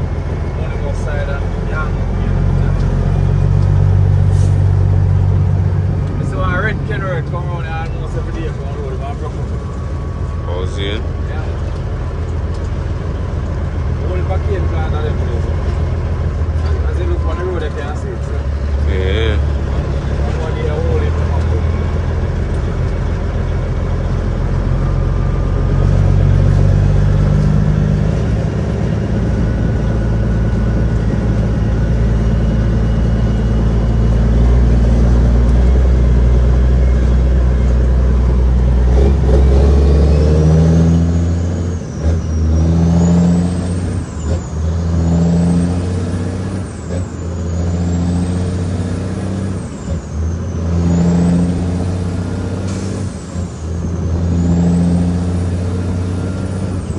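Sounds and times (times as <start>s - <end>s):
truck diesel engine droning: 0.0s - 56.9s.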